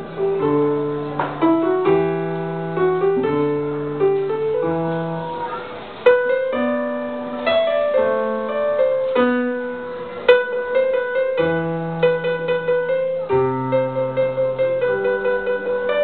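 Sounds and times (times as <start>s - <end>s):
electronic keyboard piano melody: 0.0s - 16.0s.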